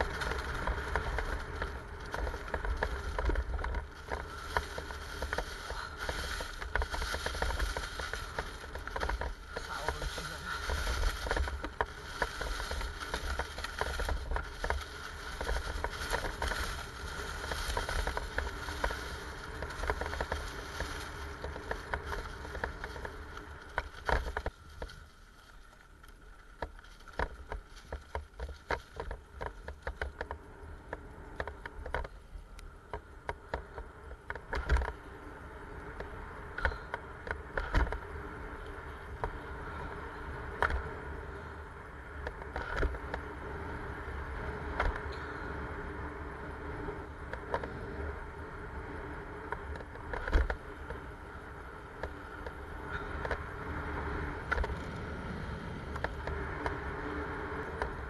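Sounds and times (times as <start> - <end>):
bike rattling over bumps: 0.0 - 58.0
bike tyres rolling over leaves: 0.0 - 58.0.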